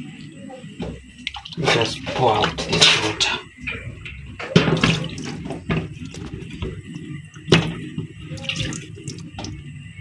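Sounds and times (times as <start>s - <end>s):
water pouring and splashing: 0.0s - 10.0s.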